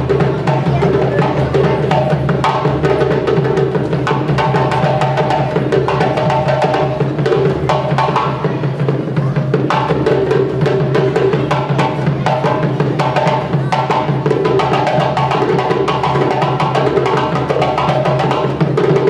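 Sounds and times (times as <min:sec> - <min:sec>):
hand drumming: 0:00.0 - 0:19.0.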